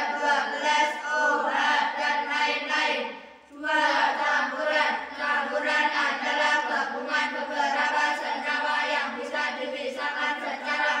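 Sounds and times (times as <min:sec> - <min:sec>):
children chanting in unison: 0:00.0 - 0:11.0.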